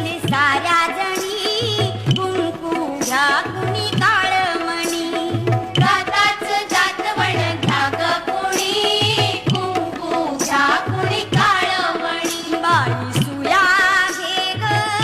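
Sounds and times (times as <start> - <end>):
song with singing over percussion: 0.0 - 15.0.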